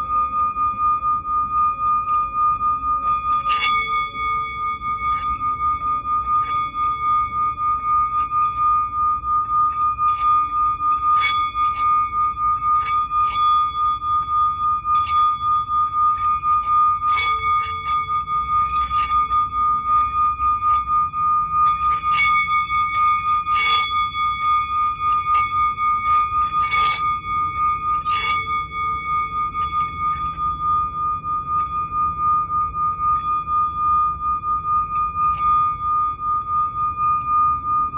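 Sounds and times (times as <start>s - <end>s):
high pulsing ringing tone: 0.0s - 37.9s.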